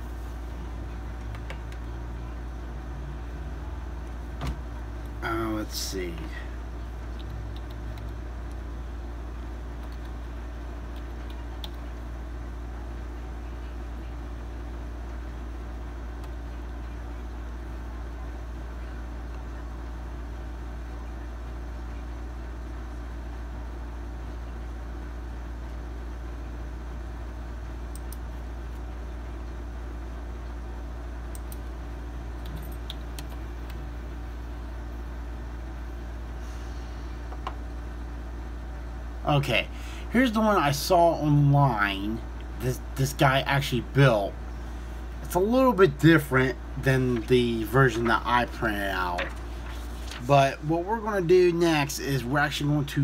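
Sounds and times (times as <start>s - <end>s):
low room hum: 0.0s - 53.0s.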